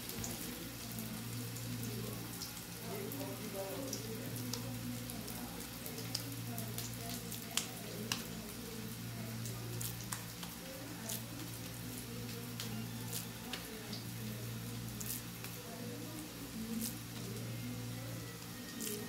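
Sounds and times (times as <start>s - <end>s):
oil sizzling and popping in pan: 0.0s - 19.0s.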